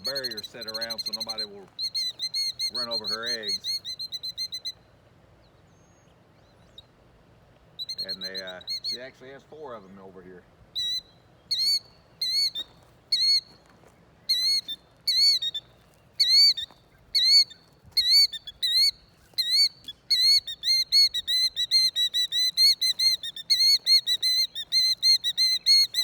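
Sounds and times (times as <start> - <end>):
shrill bird alarm calls: 0.0 - 7.0, 7.7 - 9.9, 10.7 - 26.0.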